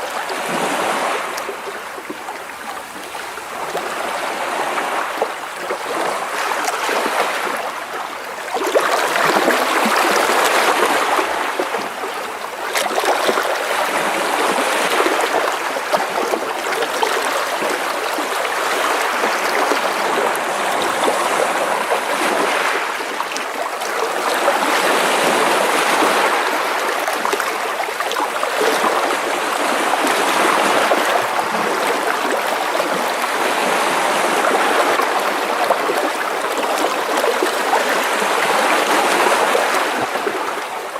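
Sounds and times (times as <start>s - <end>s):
waves splashing against rocks: 0.0s - 40.9s.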